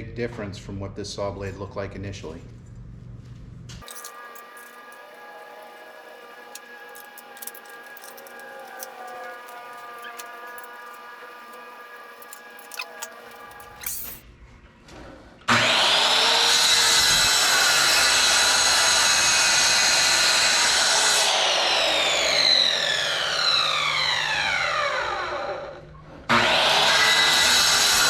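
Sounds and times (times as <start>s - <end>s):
circular saw running: 3.8s - 14.2s, 15.5s - 28.0s
saw spinning down whine: 3.8s - 14.2s, 15.5s - 28.0s.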